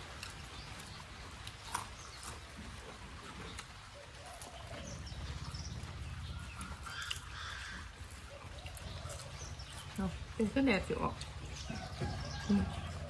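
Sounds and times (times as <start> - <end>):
people eating by hand: 0.0 - 13.0.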